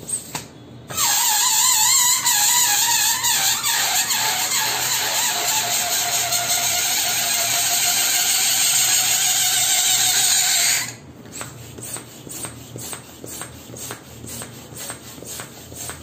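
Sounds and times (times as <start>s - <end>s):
air hissing out of balloon: 0.0s - 15.9s
hand pump inflating balloon: 0.0s - 16.0s.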